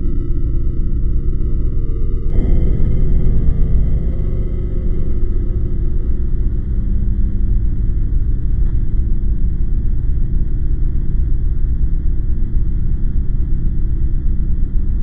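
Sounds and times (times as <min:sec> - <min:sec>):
deep low rumbling drone: 0:00.0 - 0:15.0.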